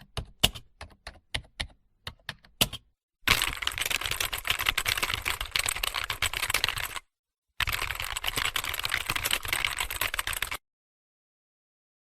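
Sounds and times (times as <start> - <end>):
fast typing on keyboard: 0.0 - 10.6.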